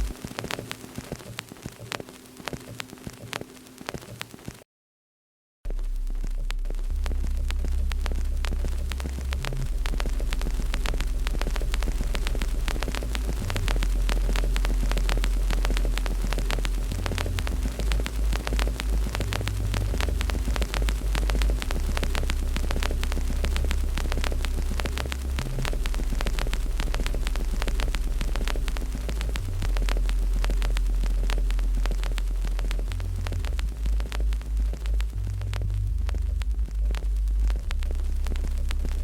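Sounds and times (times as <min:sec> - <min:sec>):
deep low hum: 0:00.0 - 0:00.2, 0:05.7 - 0:39.0
fire crackling and popping: 0:00.0 - 0:04.6, 0:05.7 - 0:39.0.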